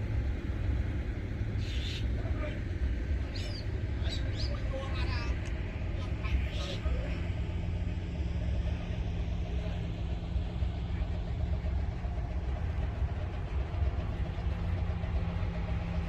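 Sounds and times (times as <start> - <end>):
heavy diesel engine rumbling: 0.0 - 16.0.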